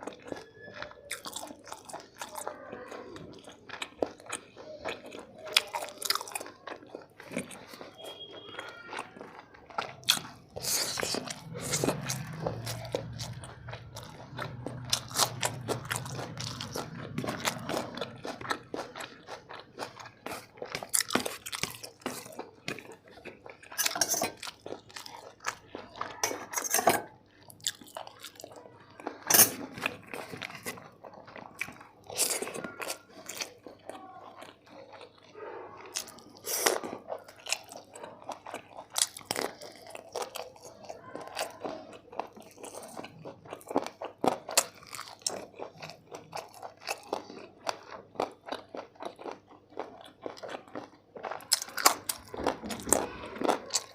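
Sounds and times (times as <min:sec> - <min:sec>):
close chewing with mouth clicks: 0:00.0 - 0:53.9.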